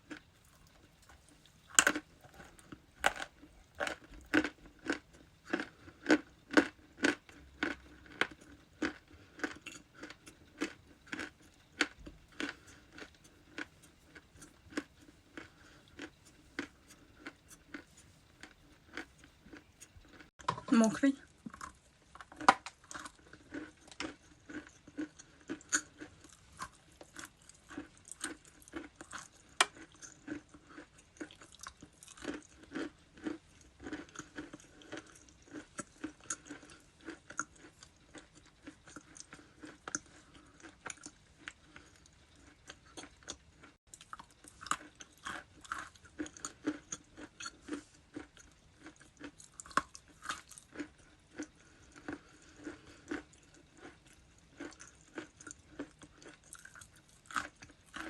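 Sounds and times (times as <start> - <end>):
ice crunching being chewed: 0.0 - 20.3, 21.2 - 58.0.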